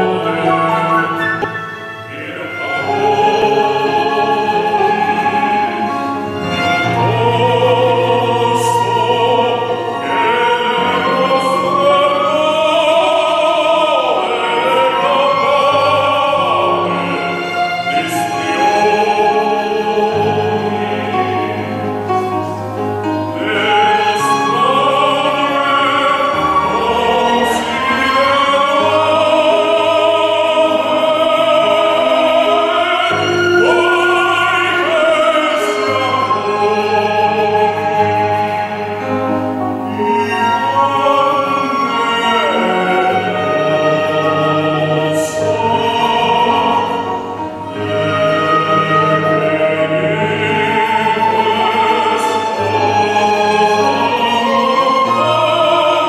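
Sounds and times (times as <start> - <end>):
man singing opera: 0.0 - 56.0
orchestral accompaniment: 0.0 - 56.0.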